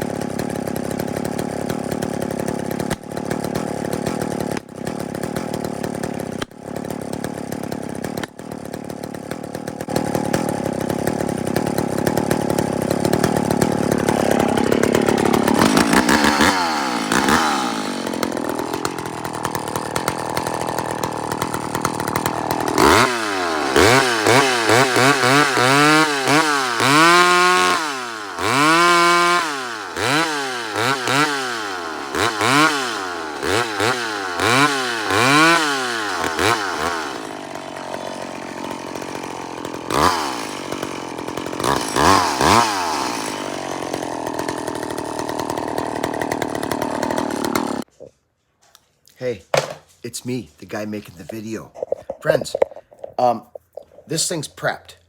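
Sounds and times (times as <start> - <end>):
chainsaw cutting and revving: 0.0 - 48.0.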